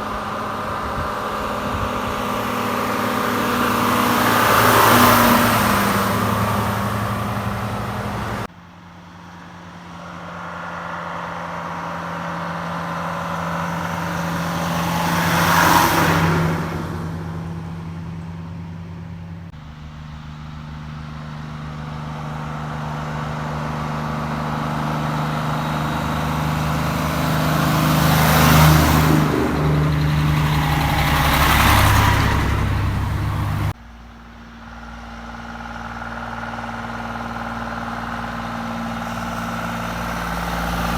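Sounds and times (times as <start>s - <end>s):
diesel lorries driving by: 0.0s - 40.9s.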